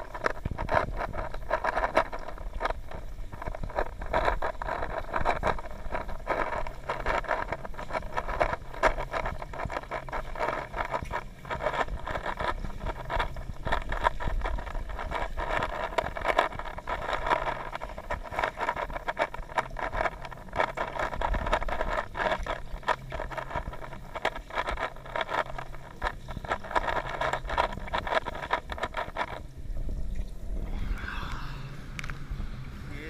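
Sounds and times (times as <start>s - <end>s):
low hum: 0.0s - 33.0s
muffled underwater hiss and rumble: 0.0s - 33.0s
underwater clicks and ticks: 0.0s - 33.0s.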